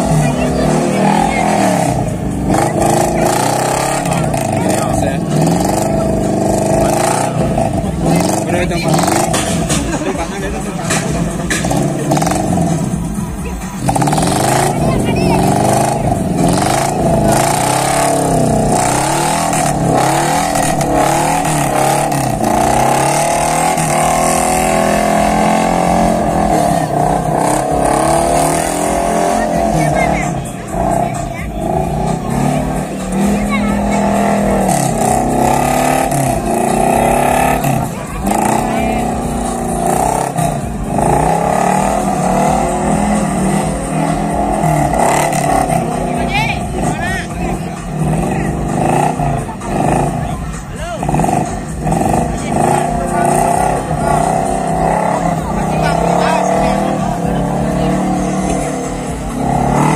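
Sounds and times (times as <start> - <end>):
pickup truck engine revving: 0.0 - 59.9.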